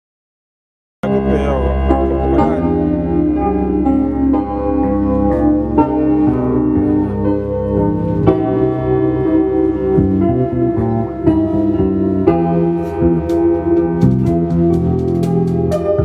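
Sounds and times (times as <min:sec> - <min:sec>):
keyboard playing held chords: 0:01.0 - 0:16.0.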